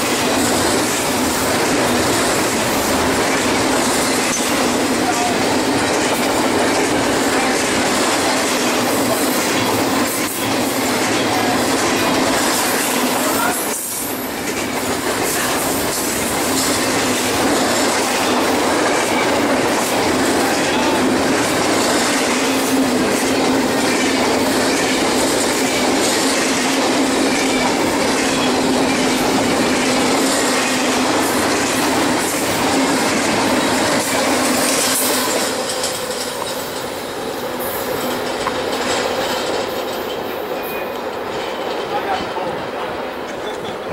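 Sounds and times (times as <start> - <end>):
freight train wheels rumbling: 0.0 - 43.9
wheels clickety-clack: 0.0 - 43.9.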